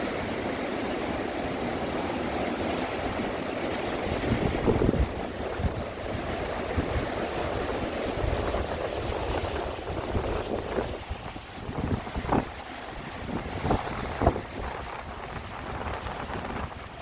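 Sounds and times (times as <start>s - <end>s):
waves breaking against rocks: 0.0s - 17.0s
wind buffeting microphone: 2.4s - 17.0s.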